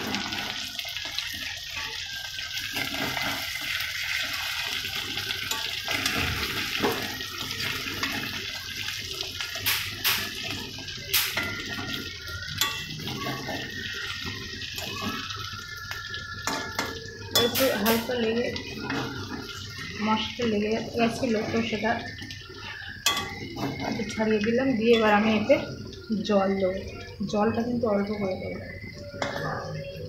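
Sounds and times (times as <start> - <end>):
curry sizzling in oil: 0.0 - 30.0.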